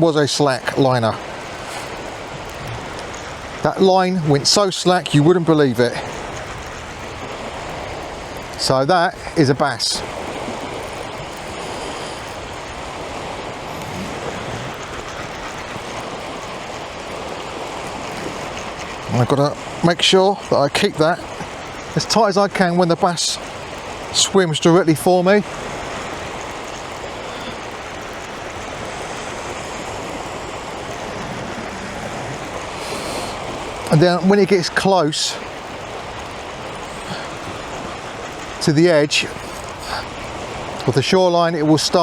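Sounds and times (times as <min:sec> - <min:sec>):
sea surf rushing: 0:00.0 - 0:42.0.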